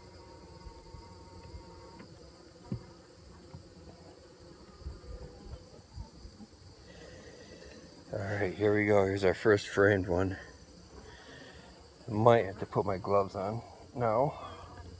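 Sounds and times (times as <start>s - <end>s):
honeybees buzzing: 0.0s - 14.9s.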